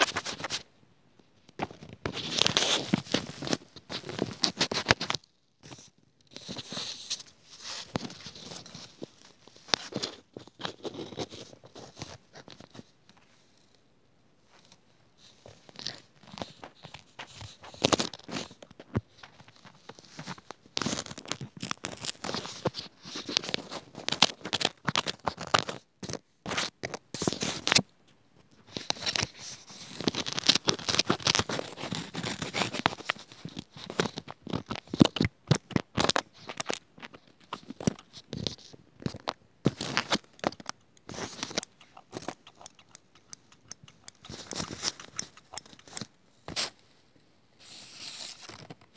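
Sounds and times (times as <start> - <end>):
crinkling and scratching objects: 0.0 - 47.0, 47.6 - 48.9.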